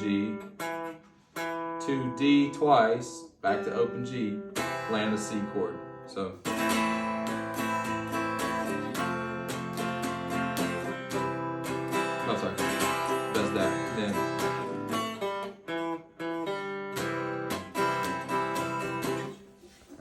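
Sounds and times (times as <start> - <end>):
acoustic guitar strumming chords: 0.0 - 19.5.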